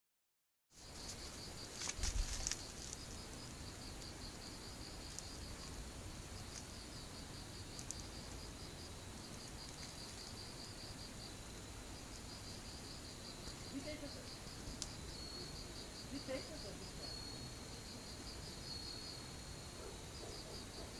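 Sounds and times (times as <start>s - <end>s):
crickets chirping: 0.7s - 20.9s.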